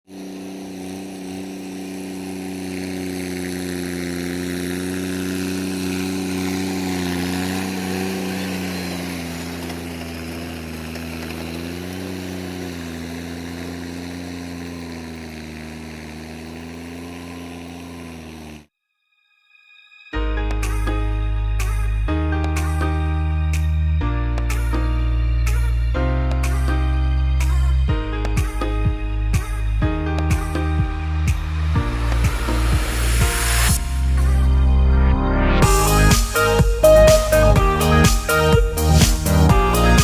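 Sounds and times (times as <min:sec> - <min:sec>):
tractor diesel engine running: 0:00.0 - 0:18.7, 0:20.3 - 0:34.9, 0:35.5 - 0:40.0.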